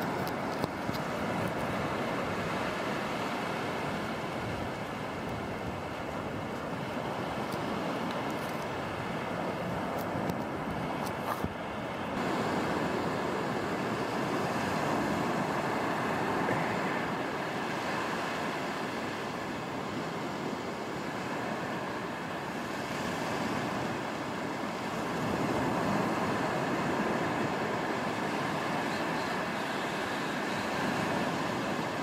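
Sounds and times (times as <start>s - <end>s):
sea surf breaking on beach: 0.0s - 32.0s.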